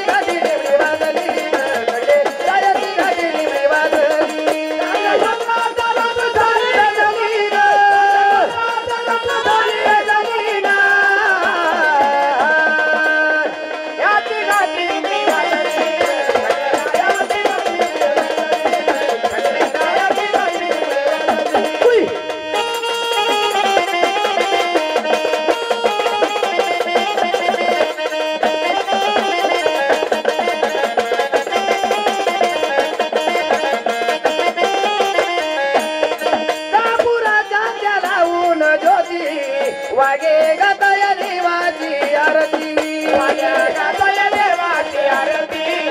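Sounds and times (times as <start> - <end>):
wavering folk melody: 0.0 - 45.9.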